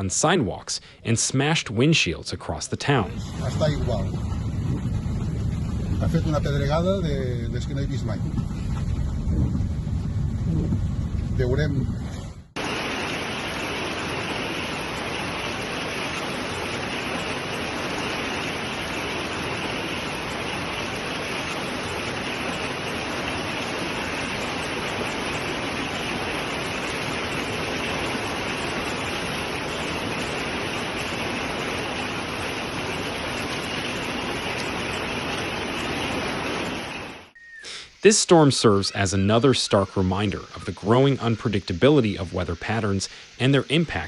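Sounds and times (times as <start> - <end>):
heavy rain downpour: 2.9 - 8.2, 12.6 - 37.4, 38.1 - 44.0.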